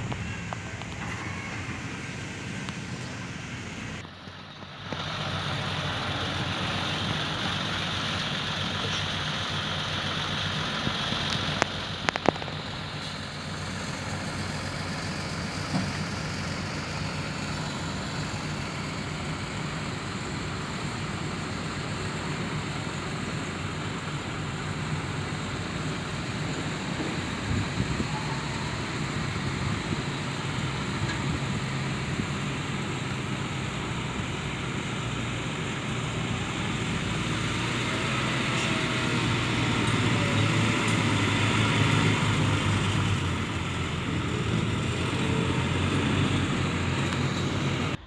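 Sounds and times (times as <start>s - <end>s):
heavy diesel machinery running: 0.0s - 48.0s.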